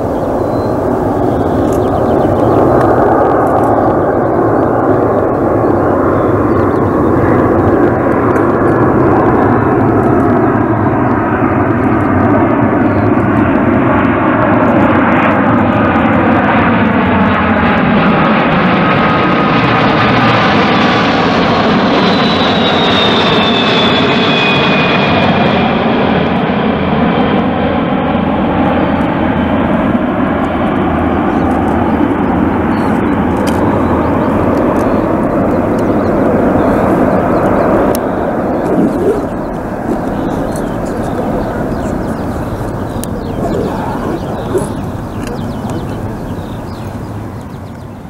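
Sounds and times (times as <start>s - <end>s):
high fan whine: 0.0s - 26.8s, 27.4s - 48.0s
airliner jet engines roaring: 0.0s - 48.0s.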